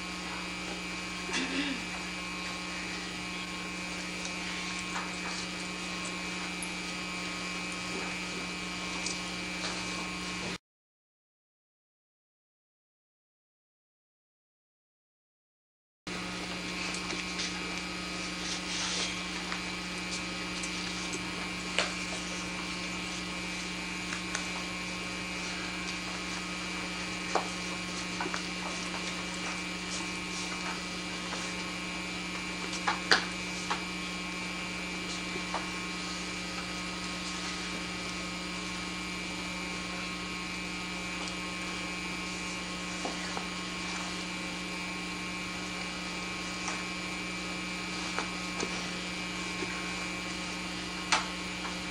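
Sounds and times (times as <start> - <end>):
electrical hum with tape hiss: 0.0 - 10.6, 16.1 - 51.9.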